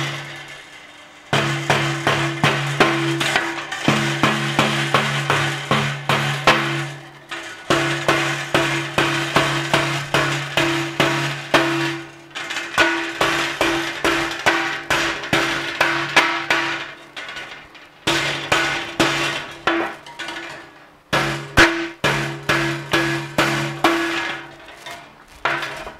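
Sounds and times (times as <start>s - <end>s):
hammer striking steel wire: 1.3s - 17.0s, 18.0s - 25.9s.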